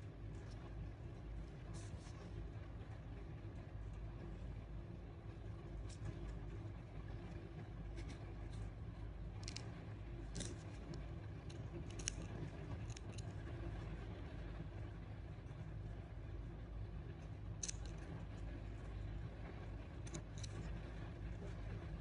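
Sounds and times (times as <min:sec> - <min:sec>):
faint low rumble: 0:00.0 - 0:22.0.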